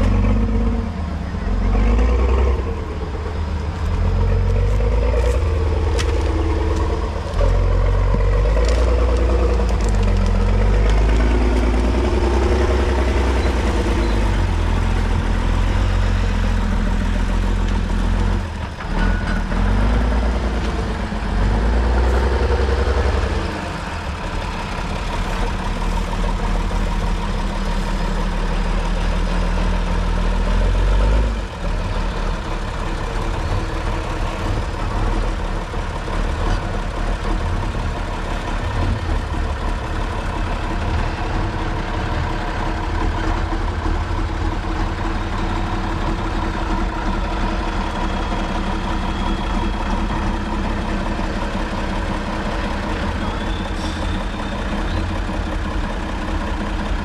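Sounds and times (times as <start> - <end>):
truck diesel engine revving: 0.0 - 57.0.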